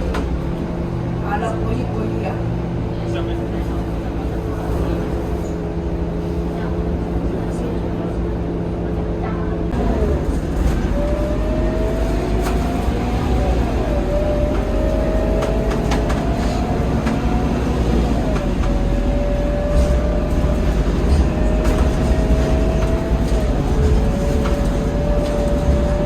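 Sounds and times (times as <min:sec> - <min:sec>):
diesel bus engine: 0:00.0 - 0:26.0.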